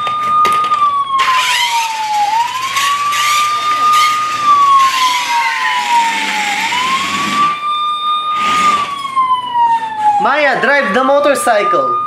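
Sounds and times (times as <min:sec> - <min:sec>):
toy police siren wailing: 0:00.0 - 0:12.0.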